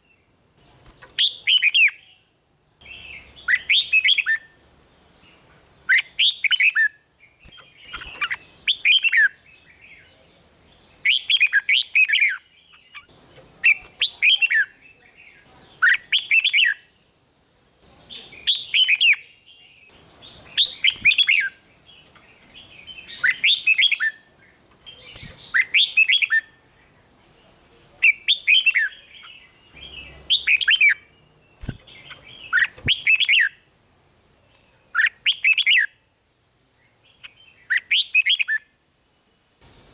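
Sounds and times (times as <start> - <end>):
bird singing warbled phrases: 0.0 - 4.6, 5.2 - 17.1, 17.8 - 33.7, 34.5 - 36.0, 36.8 - 38.8
faint high-pitched whine: 0.0 - 39.9.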